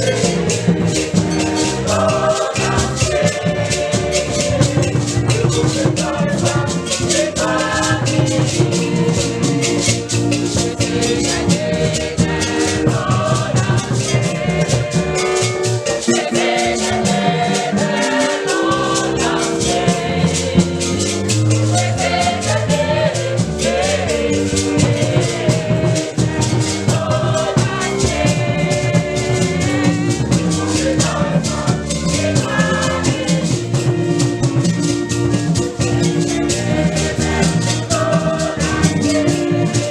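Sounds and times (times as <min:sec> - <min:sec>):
choir singing gospel: 0:00.0 - 0:39.9
shaken rattles: 0:00.0 - 0:39.9.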